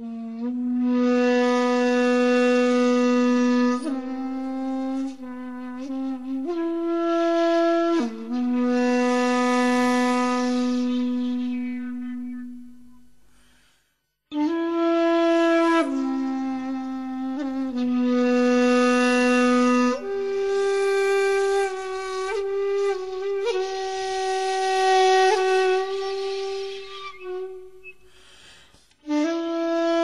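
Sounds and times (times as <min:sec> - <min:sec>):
breathy solo flute melody: 0:00.0 - 0:30.0.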